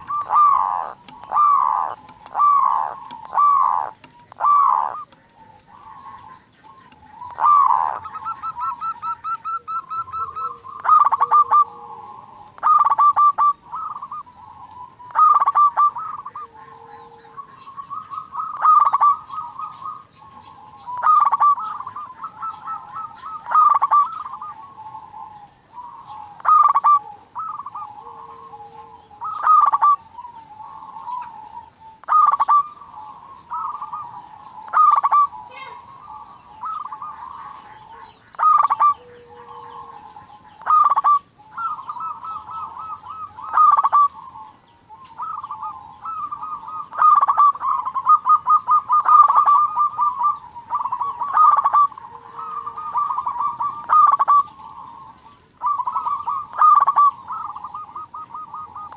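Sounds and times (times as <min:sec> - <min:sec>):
doves cooing: 0:00.0 - 0:58.9
faint low coo: 0:00.0 - 0:58.9.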